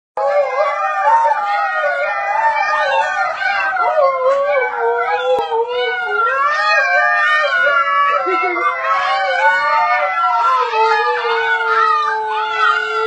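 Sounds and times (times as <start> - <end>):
dogs howling together: 0.2 - 13.0.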